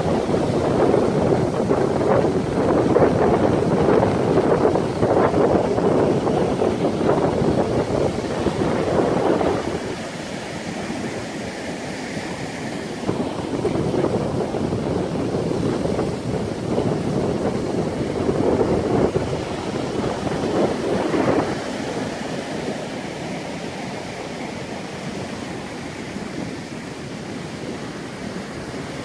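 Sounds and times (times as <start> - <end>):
surf breaking on beach: 0.0 - 29.0
wind noise on microphone: 0.0 - 29.0.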